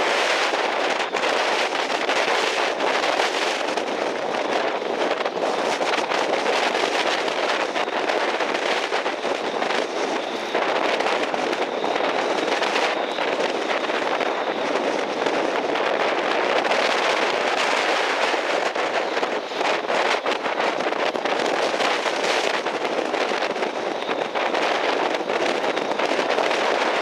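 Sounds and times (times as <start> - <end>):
wind and surf rushing: 0.0 - 27.0
wind buffeting microphone: 0.0 - 27.0.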